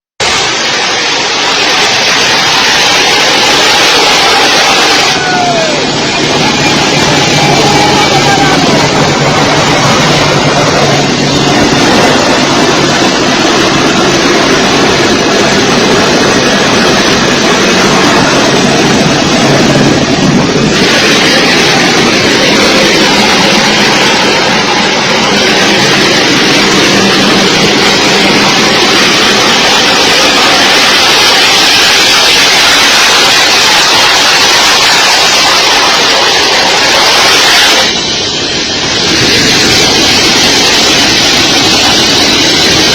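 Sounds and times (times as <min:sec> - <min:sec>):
jet engine roaring: 0:00.0 - 0:42.9.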